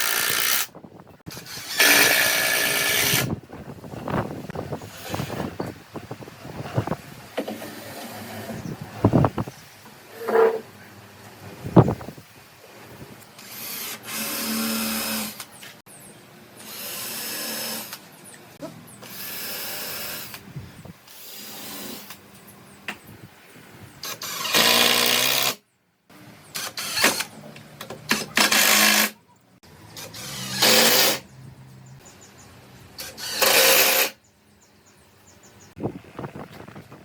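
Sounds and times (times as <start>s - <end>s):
quiet workshop sound: 0.0s - 35.8s.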